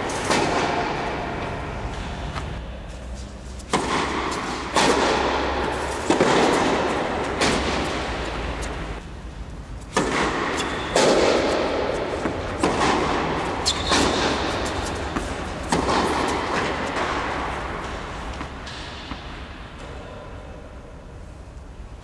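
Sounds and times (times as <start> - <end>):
tennis ball bouncing: 0.0 - 19.9
racket striking tennis ball: 0.0 - 20.0.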